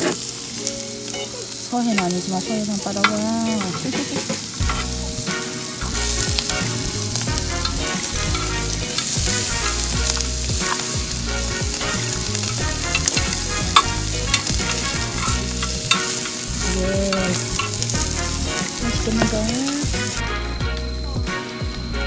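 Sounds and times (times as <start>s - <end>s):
background music: 0.0s - 22.0s
food sizzling in a pan: 0.0s - 22.0s.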